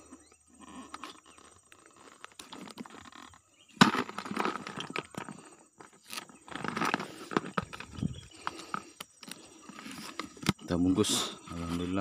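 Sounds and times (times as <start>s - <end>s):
eel scraping and rustling in bucket: 0.1s - 12.0s.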